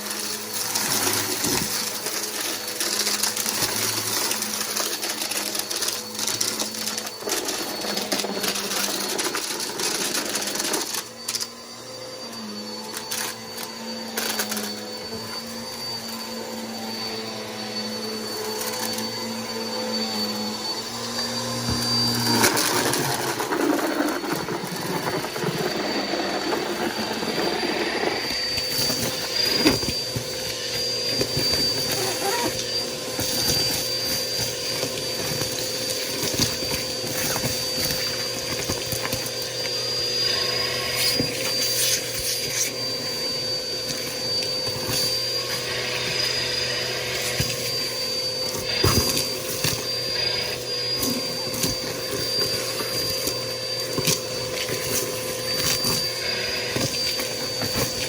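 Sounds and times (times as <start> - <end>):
vacuum cleaner whining: 0.0 - 58.0.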